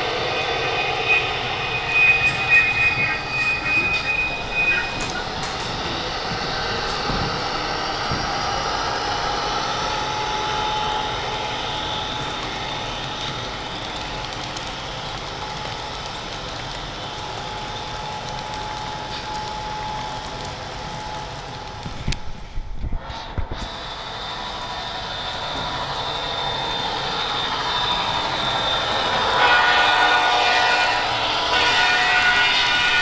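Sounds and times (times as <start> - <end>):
faint steady whine: 0.0 - 33.0
model train wheels and motor whirring: 0.0 - 33.0.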